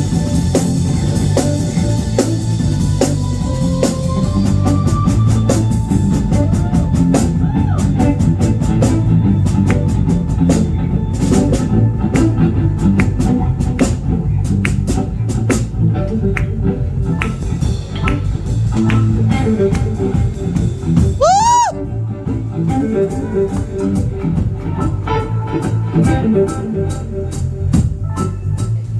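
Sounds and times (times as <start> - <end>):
bass guitar: 0.0 - 28.9
drum kit with cymbal hits: 0.0 - 28.9
electric guitar: 0.0 - 28.9.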